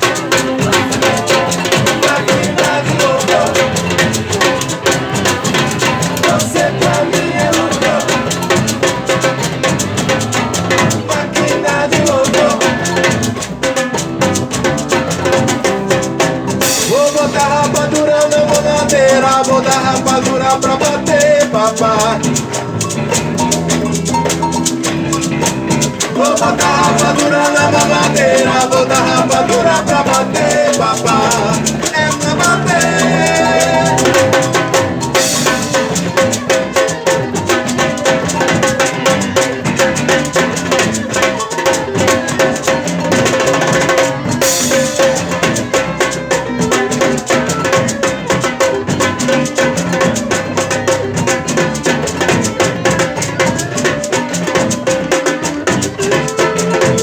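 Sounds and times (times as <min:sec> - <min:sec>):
drum kit beat: 0:00.0 - 0:57.0
live instrumental band music: 0:00.0 - 0:57.0
shaker percussion: 0:00.0 - 0:57.0.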